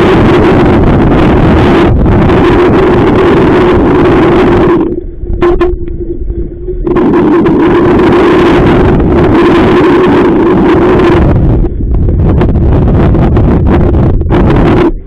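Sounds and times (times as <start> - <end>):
boat hum: 0.0 - 15.0
wind buffeting microphone: 0.0 - 15.0.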